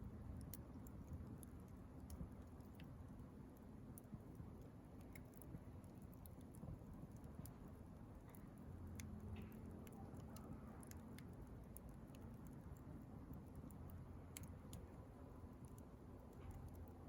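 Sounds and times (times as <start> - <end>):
bonfire crackling: 0.1 - 17.0.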